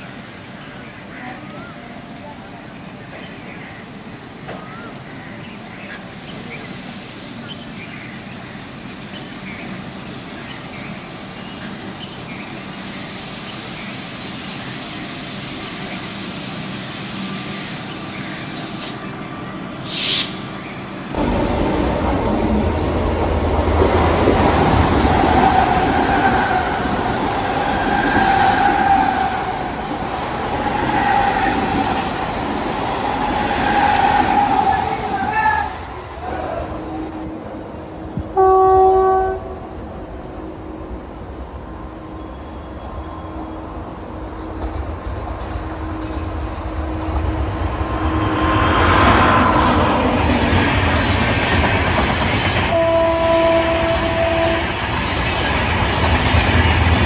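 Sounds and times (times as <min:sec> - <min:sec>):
train wheels rumbling and squealing: 0:00.0 - 0:38.4, 0:39.6 - 0:57.0
diesel train rumbling: 0:00.0 - 0:57.0
electric train rushing past: 0:00.0 - 0:57.0.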